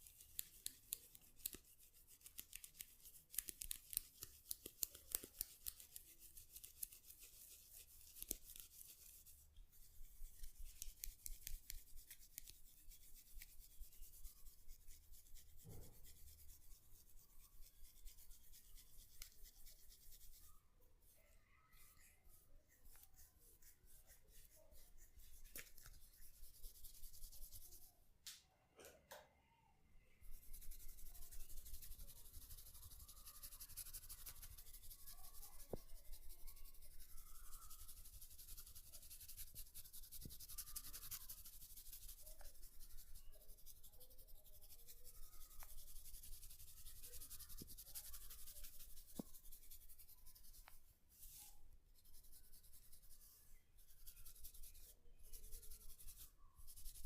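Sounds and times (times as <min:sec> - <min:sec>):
scratching through hair: 0:00.0 - 0:27.9, 0:30.2 - 0:57.0.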